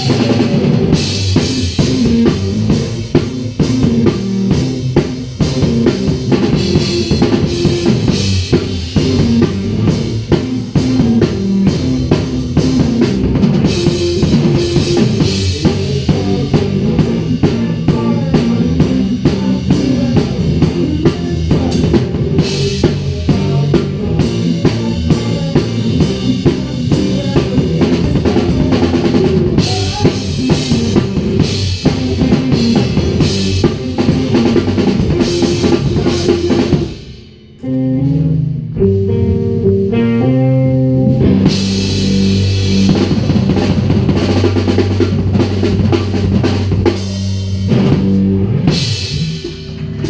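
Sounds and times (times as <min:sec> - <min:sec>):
blues-rock band playing: 0:00.0 - 0:50.0
drum kit: 0:00.0 - 0:50.0
electric guitars: 0:00.0 - 0:50.0.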